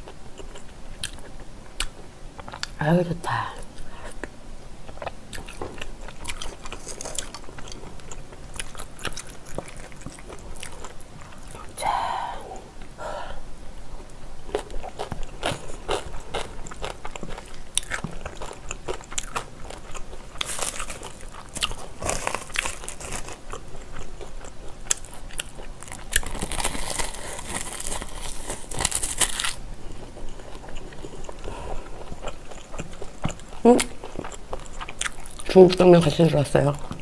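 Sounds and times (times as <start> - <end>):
person chewing and crunching food: 0.0 - 2.8, 3.7 - 12.3, 13.8 - 37.0.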